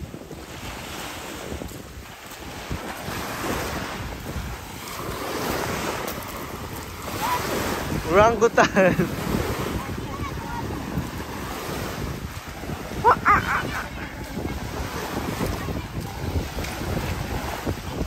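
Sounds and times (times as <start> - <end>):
small waves washing onto sand: 0.0 - 18.0
wind rumbling on microphone: 0.0 - 18.0.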